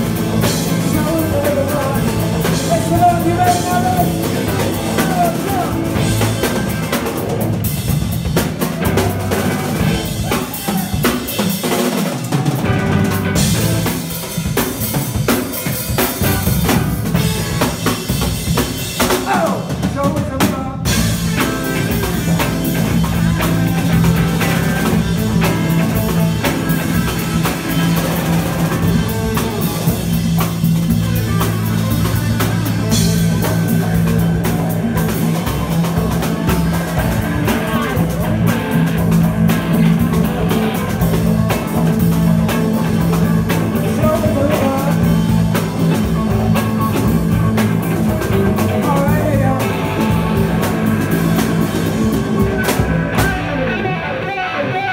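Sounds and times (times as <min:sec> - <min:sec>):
electric guitar playing: 0:00.0 - 0:19.9, 0:20.8 - 0:54.9
drum kit and cymbals: 0:00.0 - 0:53.8.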